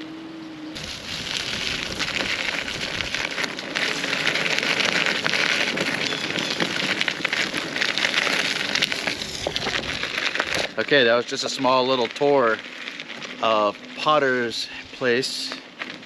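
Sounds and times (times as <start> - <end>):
rain pattering: 0.8 - 16.0.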